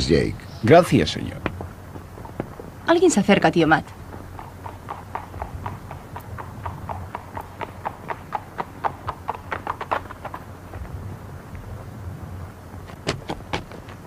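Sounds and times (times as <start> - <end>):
horse hooves clip-clopping: 0.0 - 14.0
low steady hum: 0.0 - 14.0.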